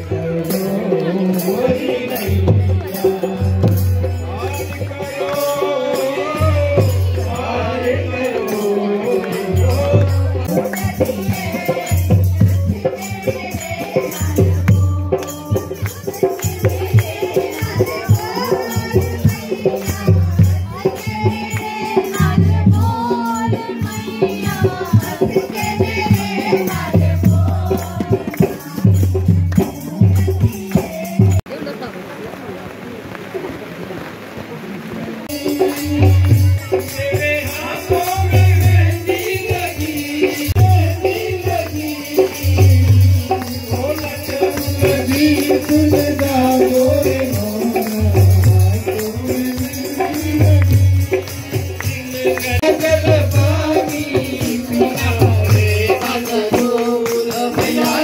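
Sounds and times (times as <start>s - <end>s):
percussion beat: 0.0s - 31.5s, 35.3s - 58.0s
person singing into a microphone: 0.0s - 31.5s, 35.3s - 58.0s
harmonium: 0.0s - 31.8s, 35.3s - 58.0s.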